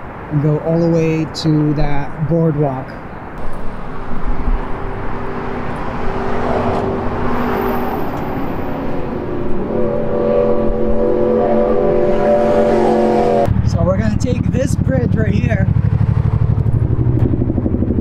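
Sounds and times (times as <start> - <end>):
vehicle passing: 3.2 - 18.0
engine humming: 3.4 - 18.0.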